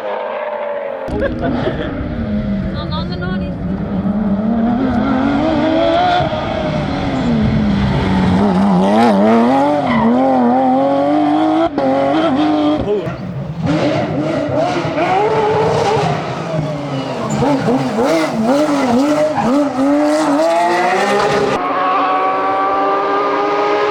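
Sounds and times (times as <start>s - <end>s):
rally car engine revving: 0.0s - 23.9s.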